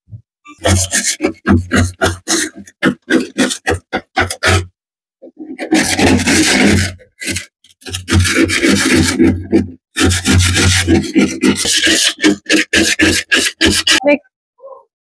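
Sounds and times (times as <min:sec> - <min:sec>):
ice scraping in freezer: 0:00.5 - 0:04.7, 0:05.3 - 0:14.0.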